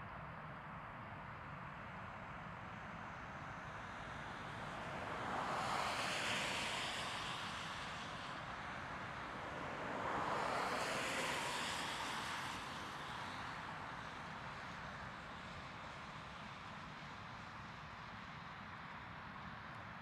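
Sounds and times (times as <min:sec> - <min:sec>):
distant jet airliner engine roar: 0:02.2 - 0:20.0.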